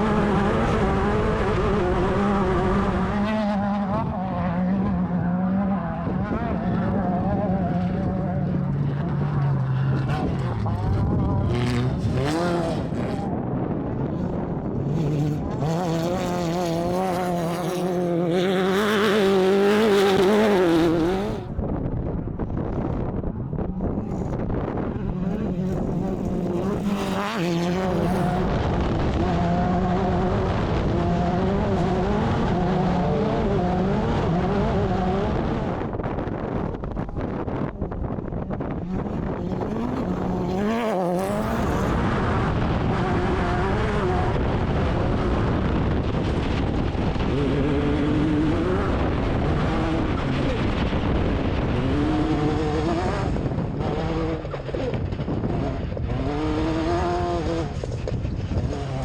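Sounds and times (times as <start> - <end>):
race car engine running hard: 0.0 - 59.0
road and wind noise: 0.0 - 59.0.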